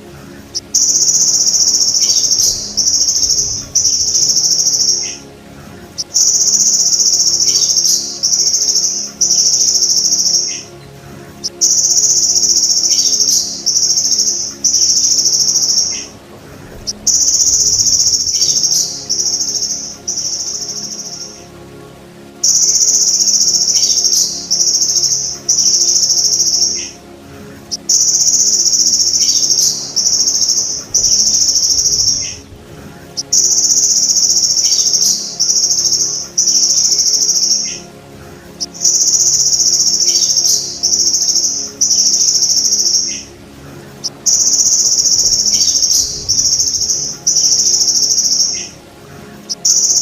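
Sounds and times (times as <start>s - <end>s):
grasshopper high-pitched buzzing: 0.0s - 21.6s, 22.4s - 50.0s.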